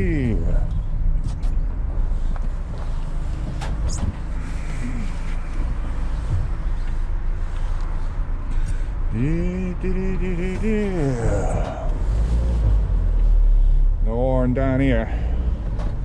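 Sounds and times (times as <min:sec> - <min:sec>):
van engine and road rumble: 0:00.0 - 0:16.0.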